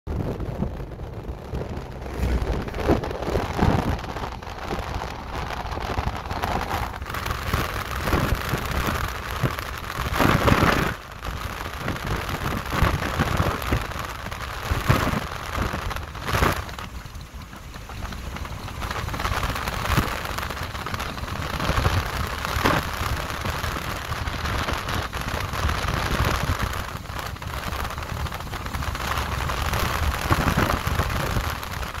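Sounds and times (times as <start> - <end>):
wind rushing over microphone: 0.1 - 17.0, 17.9 - 32.0.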